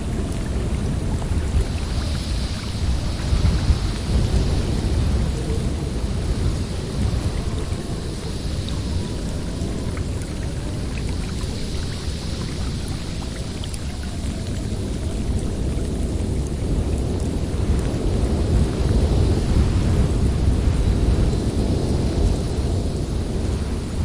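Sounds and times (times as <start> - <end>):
blizzard wind howling: 0.0 - 24.0.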